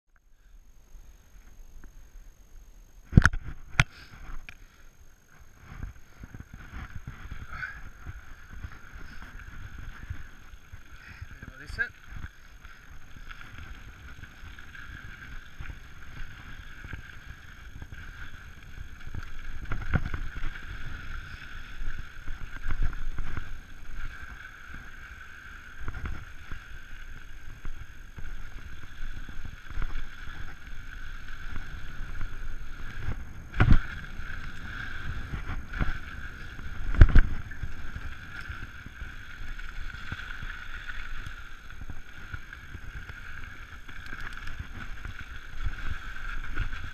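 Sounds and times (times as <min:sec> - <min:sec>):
bike rattling: 0:03.1 - 0:46.9
wind on microphone: 0:05.4 - 0:46.9.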